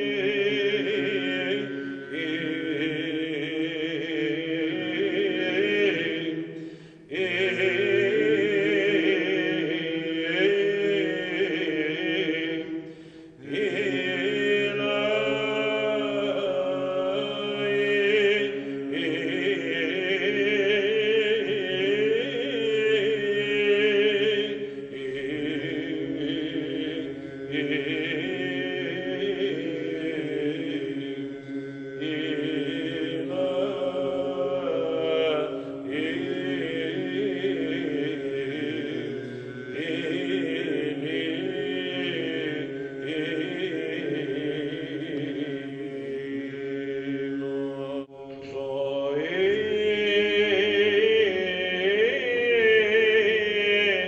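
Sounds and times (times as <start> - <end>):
held vocal drone: 0.0 - 54.0
men chanting ornamented melody: 0.0 - 54.0.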